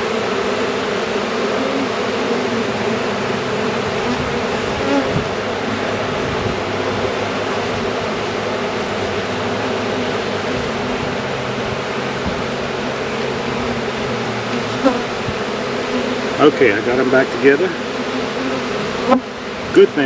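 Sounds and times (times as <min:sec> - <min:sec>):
bees buzzing loudly: 0:00.0 - 0:20.0.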